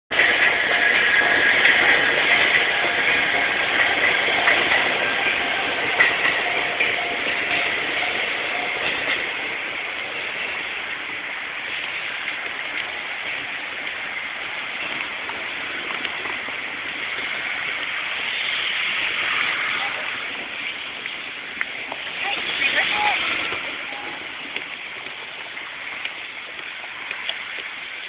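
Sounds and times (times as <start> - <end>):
train wheels running over rails: 0.1 - 28.0.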